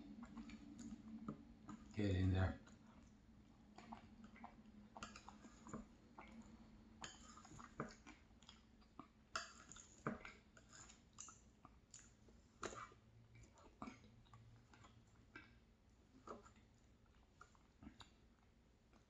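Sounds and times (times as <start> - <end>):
person chewing: 2.6 - 19.0.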